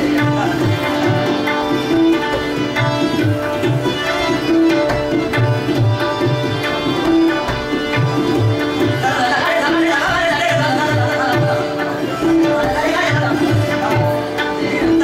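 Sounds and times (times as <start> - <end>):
tabla playing: 0.0 - 15.0.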